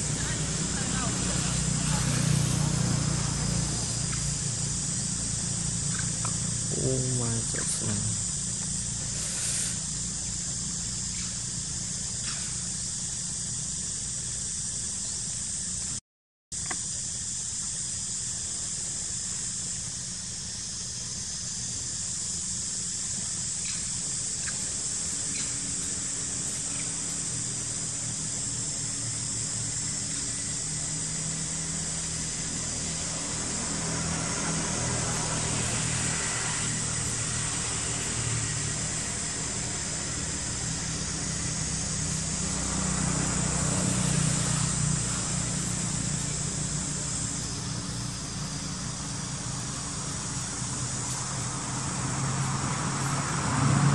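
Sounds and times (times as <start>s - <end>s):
high-pitched hiss: 0.0s - 53.9s.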